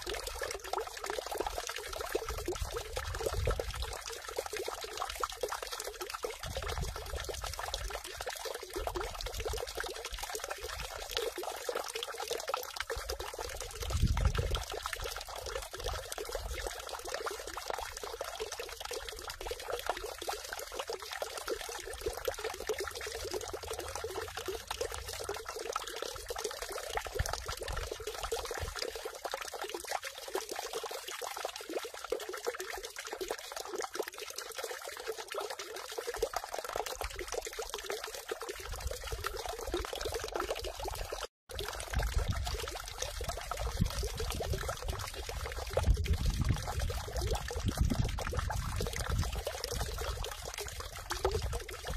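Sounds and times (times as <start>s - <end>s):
water splashing into stone basin: 0.0s - 51.9s.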